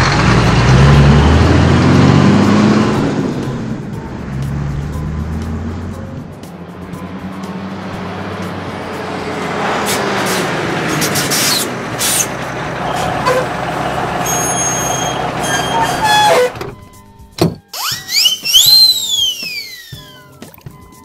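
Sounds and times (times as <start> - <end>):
heavy truck engine running: 0.0 - 17.6.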